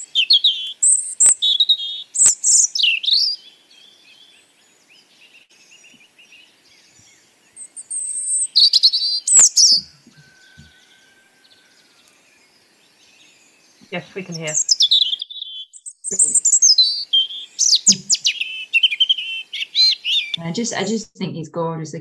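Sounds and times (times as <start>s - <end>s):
robin singing: 0.0s - 21.1s.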